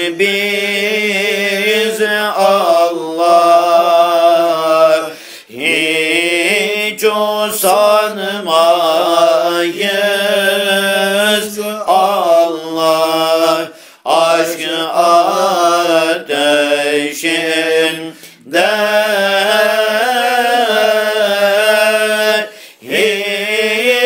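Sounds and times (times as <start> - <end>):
voices chanting a hymn: 0.0 - 24.0.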